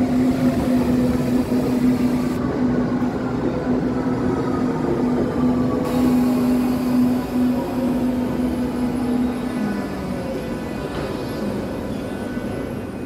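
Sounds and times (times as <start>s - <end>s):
underground train running: 0.0s - 13.0s.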